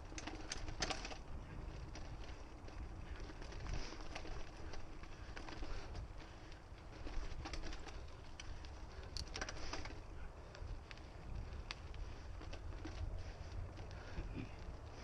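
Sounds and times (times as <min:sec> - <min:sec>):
bike clicks and rattles: 0:00.0 - 0:15.0
bike tyres on dirt trail: 0:00.0 - 0:15.0
wind rumble on microphone: 0:00.0 - 0:15.0.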